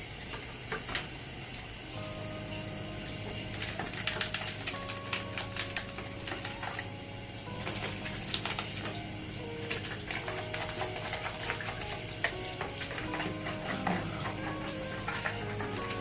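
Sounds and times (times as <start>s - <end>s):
background music of held chords: 1.9s - 16.0s.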